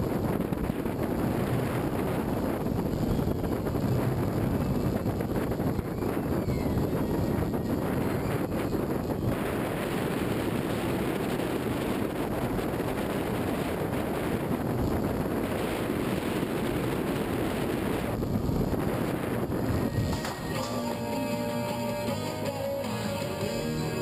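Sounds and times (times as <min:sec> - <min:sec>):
wind buffeting camera: 0:00.0 - 0:21.3
roller coaster rumbling on track: 0:00.0 - 0:22.1.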